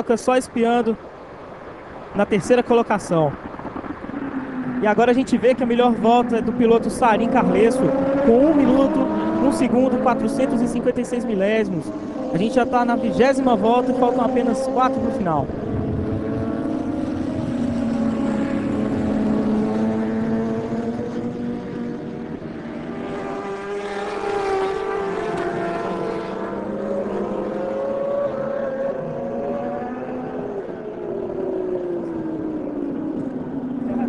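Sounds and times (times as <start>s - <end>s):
racing motorbikes revving: 2.1s - 34.0s.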